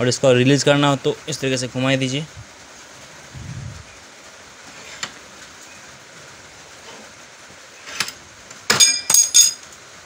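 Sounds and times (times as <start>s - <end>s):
low steady hiss: 0.0s - 10.0s.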